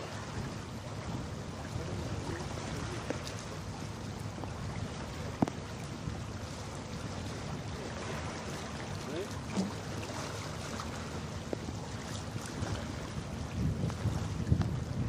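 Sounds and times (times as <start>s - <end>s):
rushing wind and water: 0.0s - 15.0s.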